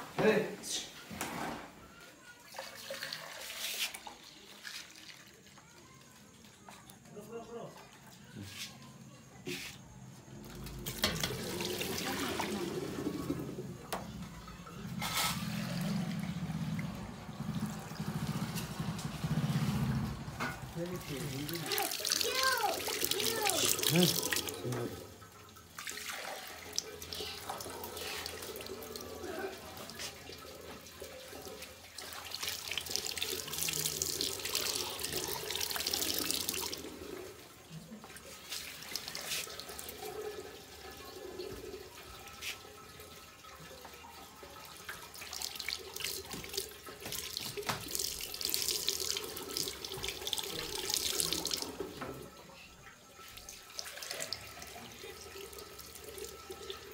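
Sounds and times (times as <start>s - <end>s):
water running and splashing: 2.5s - 8.8s, 10.3s - 56.9s.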